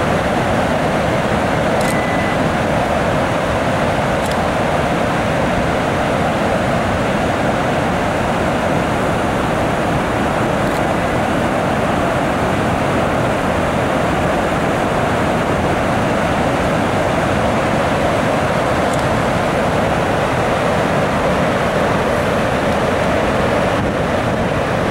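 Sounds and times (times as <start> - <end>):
water rushing over dam spillway: 0.0 - 24.9.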